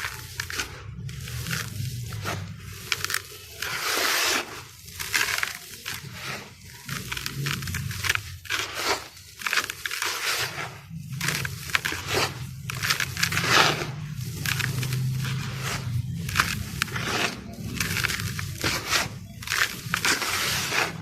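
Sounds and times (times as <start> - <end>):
gritty scraping: 0.0 - 21.0
slabs crunching and crumbling: 0.0 - 21.0.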